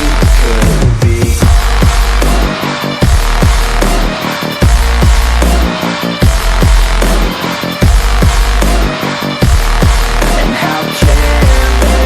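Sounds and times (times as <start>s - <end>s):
electronic dance music: 0.0s - 12.0s
heavy bass drops: 0.0s - 12.0s
held synth chords: 1.4s - 12.0s.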